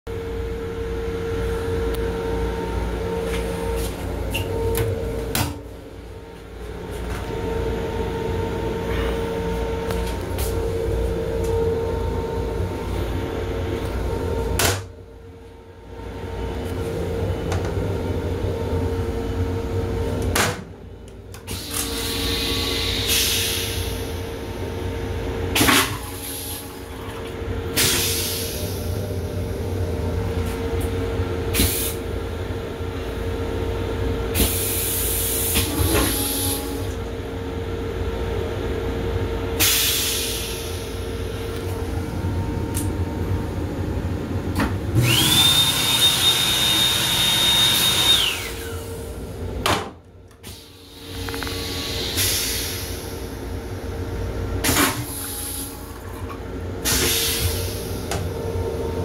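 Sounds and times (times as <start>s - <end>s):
railcar hum and rumble: 0.1s - 45.6s, 48.2s - 59.0s.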